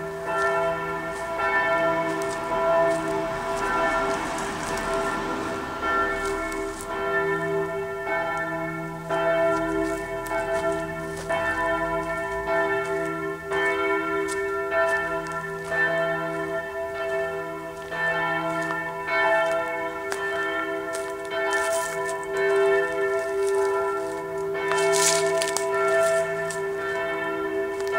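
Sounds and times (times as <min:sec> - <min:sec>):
church bells ringing: 0:00.0 - 0:27.9.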